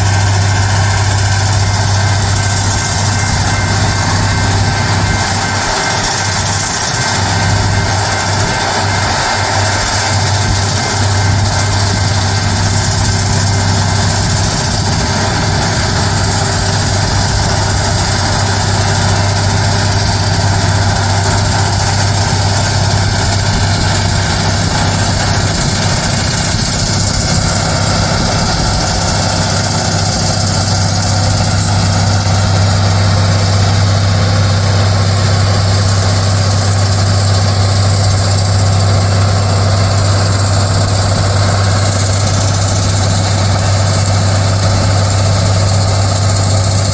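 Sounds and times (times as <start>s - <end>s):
diesel machinery running: 0.0s - 46.9s
even rushing noise: 0.0s - 46.9s
low hum: 0.0s - 46.9s.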